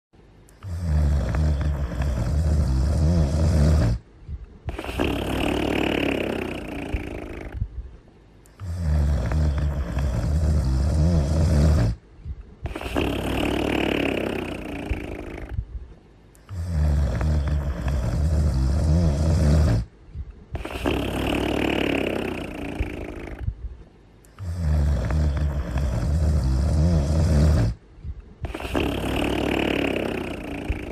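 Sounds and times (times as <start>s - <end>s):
cartoon character snoring: 0.6s - 4.0s, 4.7s - 7.7s, 8.6s - 12.0s, 12.6s - 15.6s, 16.4s - 19.9s, 20.5s - 23.5s, 24.4s - 27.8s, 28.4s - 30.9s.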